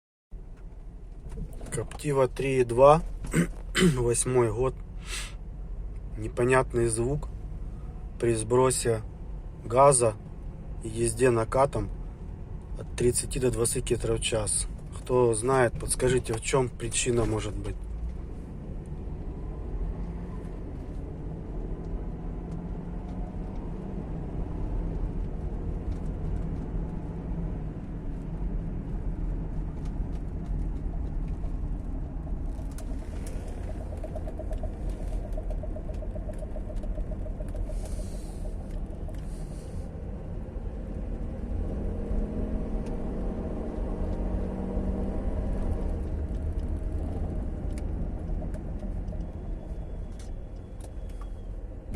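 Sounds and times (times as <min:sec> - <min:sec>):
car engine and road rumble: 0:00.3 - 0:51.9.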